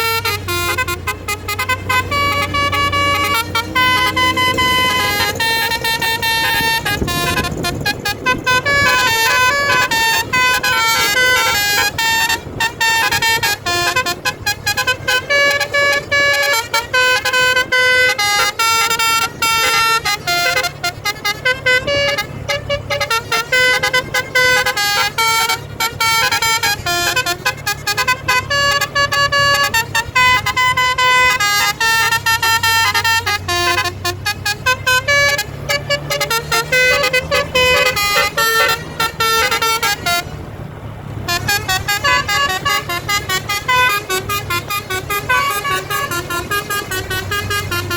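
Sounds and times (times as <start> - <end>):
bus horn playing a tune: 0.0 - 47.9.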